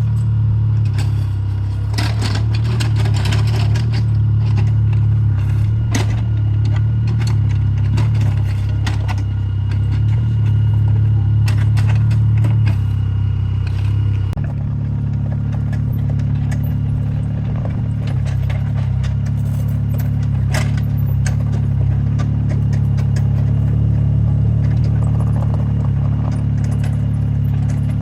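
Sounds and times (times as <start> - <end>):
clanks and rattles of machine: 0.0 - 28.0
excavator engine running: 0.0 - 28.0.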